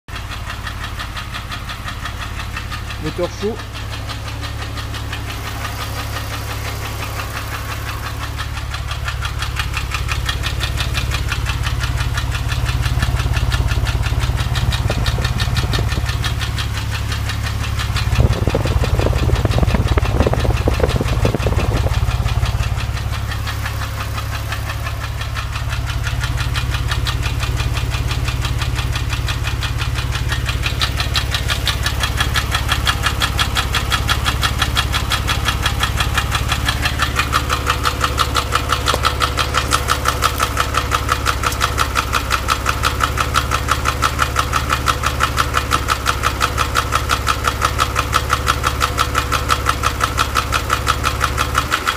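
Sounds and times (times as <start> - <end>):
car engine idling: 0.1 - 51.9
fast regular ticking clatter: 0.1 - 51.9.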